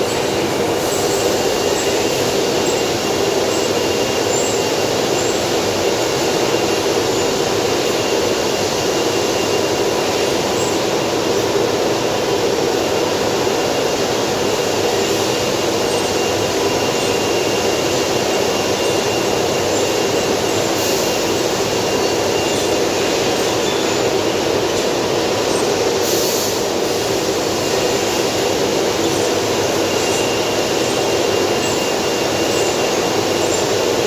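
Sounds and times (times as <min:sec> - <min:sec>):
machine running loudly: 0:00.0 - 0:34.0.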